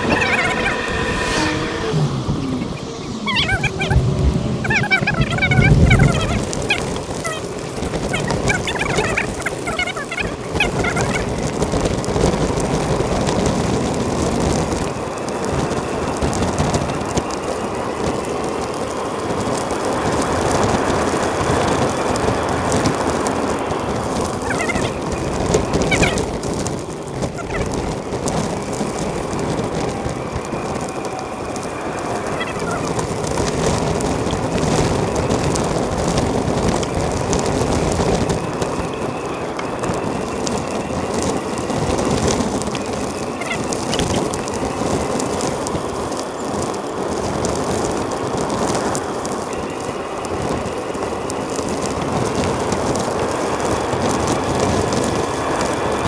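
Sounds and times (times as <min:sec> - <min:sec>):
wind and road noise on bicycle: 0:00.0 - 0:56.0.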